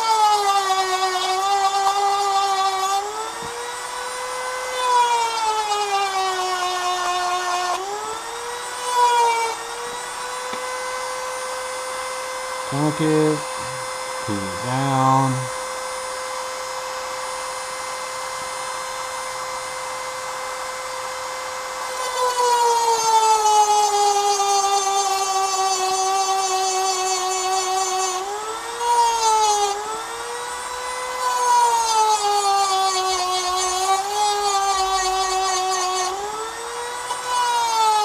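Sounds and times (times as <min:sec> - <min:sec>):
rotary tool grinding metal: 0:00.0 - 0:11.8, 0:12.7 - 0:15.5, 0:21.8 - 0:38.0.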